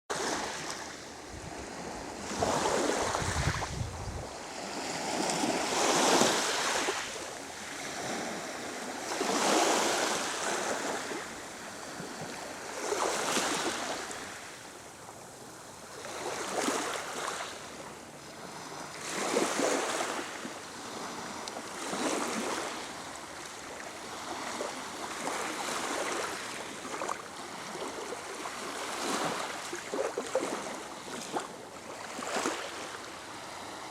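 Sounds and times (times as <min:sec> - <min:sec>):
waves breaking on shore: 0:00.1 - 0:14.8, 0:15.9 - 0:33.9.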